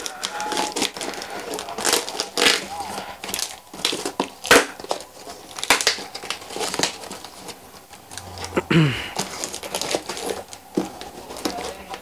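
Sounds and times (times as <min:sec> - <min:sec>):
cardboard box and tape crinkling: 0:00.0 - 0:12.0.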